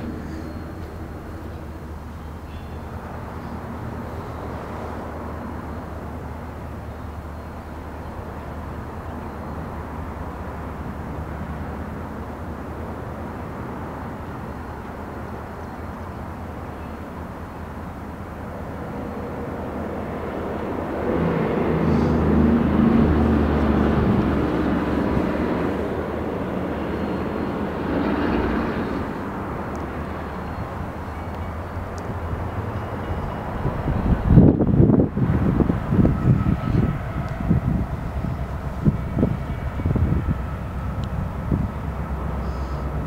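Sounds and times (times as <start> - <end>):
diesel locomotive engine drone: 0.0 - 43.0.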